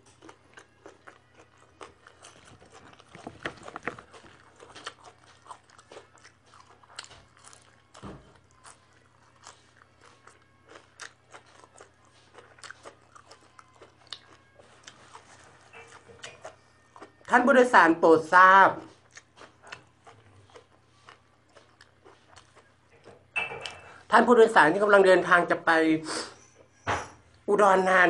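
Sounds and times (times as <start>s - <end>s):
chewing crunchy leafy greens: 0.0s - 23.0s.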